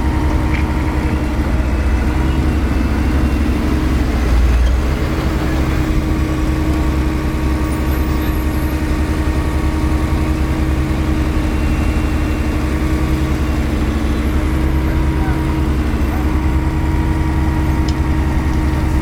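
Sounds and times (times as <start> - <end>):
heavy diesel engines running: 0.0 - 19.0.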